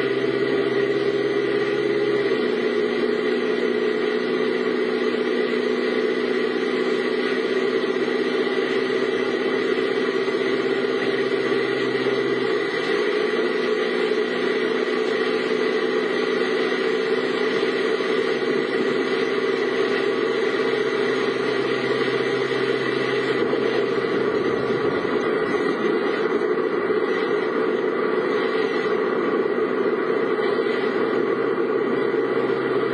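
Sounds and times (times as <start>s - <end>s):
vehicle engine humming: 0.0s - 32.9s.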